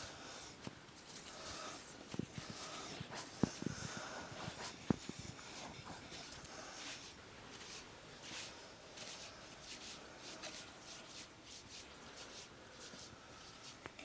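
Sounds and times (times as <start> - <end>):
soft hand brushing strokes: 0.0 - 14.0.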